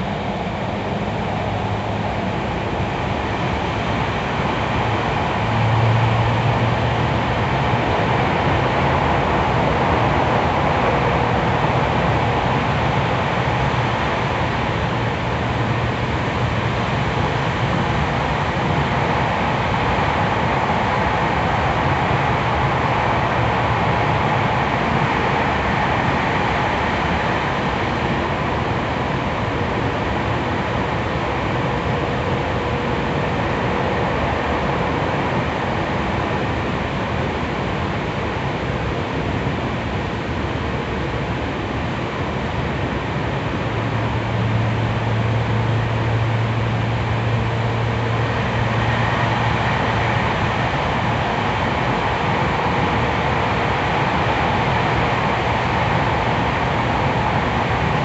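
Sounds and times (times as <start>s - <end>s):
train wheels rumbling in tunnel: 0.0s - 58.0s.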